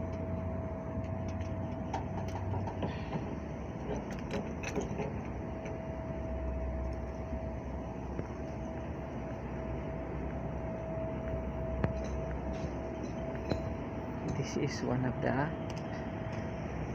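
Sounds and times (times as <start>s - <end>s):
machine hum with high whine: 0.0s - 16.9s.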